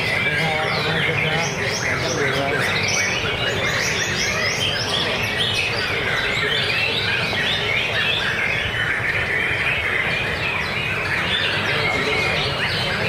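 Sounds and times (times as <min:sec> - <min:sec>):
songbirds chorus of whistles: 0:00.0 - 0:13.0.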